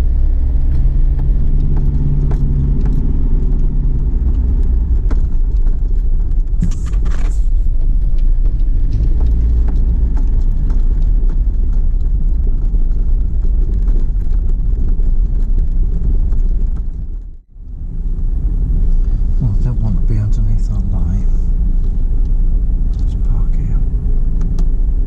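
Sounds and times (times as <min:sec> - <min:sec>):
engine and road noise rumble: 0:00.0 - 0:25.0.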